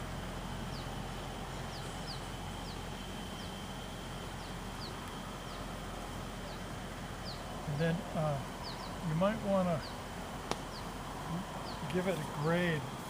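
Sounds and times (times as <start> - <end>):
outdoor background noise: 0.0 - 13.0
small bird chirping: 0.6 - 12.0.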